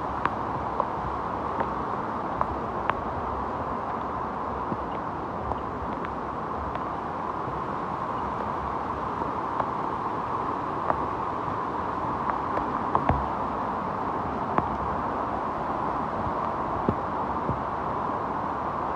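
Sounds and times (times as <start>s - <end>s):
rushing stream water: 0.0s - 18.9s.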